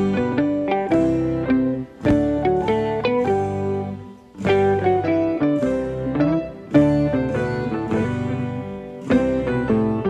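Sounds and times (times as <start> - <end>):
light instrumental background music: 0.0 - 10.0.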